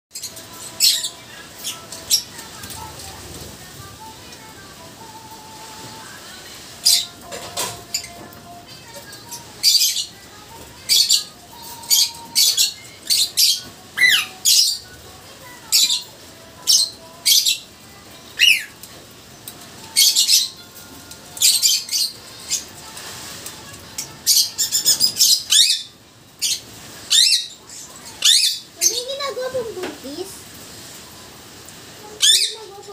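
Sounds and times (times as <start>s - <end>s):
lovebirds chirping and squawking: 0.1s - 31.0s, 31.7s - 32.9s.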